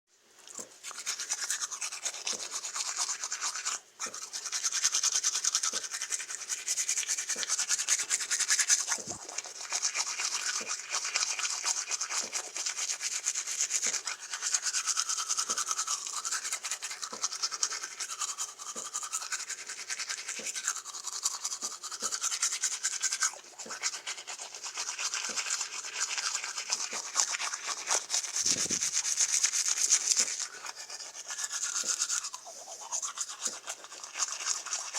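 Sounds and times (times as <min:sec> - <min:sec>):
toothbrush scrubbing teeth: 0:00.4 - 0:34.9.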